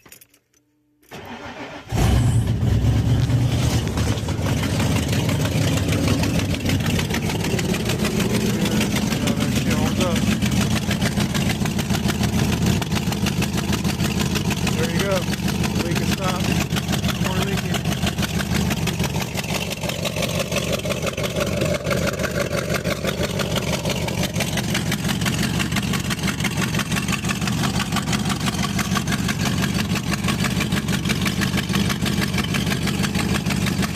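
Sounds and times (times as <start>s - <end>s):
truck engine idling: 1.1s - 33.9s.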